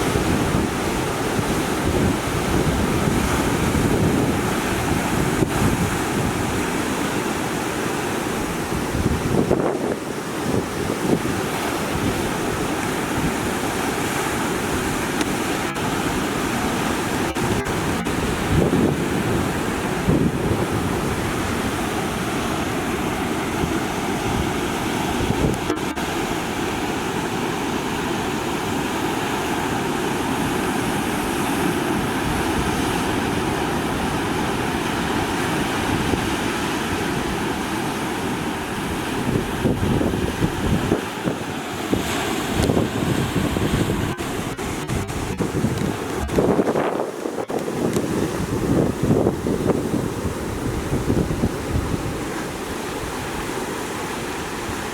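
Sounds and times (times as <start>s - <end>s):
heavy surf breaking: 0.0s - 54.9s
wind buffeting microphone: 0.0s - 54.9s.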